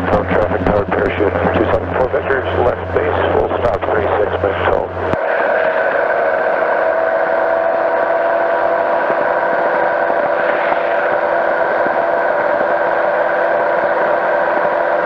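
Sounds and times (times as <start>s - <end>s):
engine and propeller droning: 0.0s - 15.0s.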